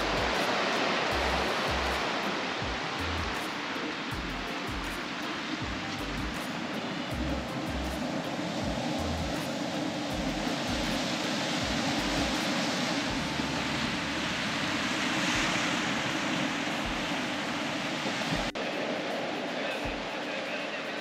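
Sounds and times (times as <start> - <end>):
wind rumble on microphone: 0.0 - 19.0
surf breaking on rocky shore: 0.0 - 21.0.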